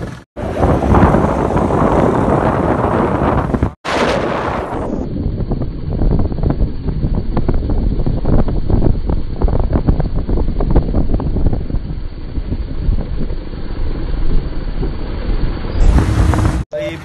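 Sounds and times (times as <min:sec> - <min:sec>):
wind buffeting microphone: 0:00.0 - 0:16.6
motorcycle ride noise: 0:00.0 - 0:17.0.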